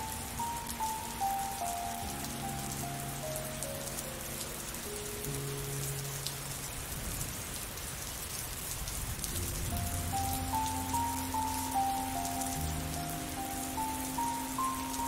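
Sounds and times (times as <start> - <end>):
slow soft music: 0.0 - 7.6, 9.2 - 15.0
steady rain: 0.0 - 15.0.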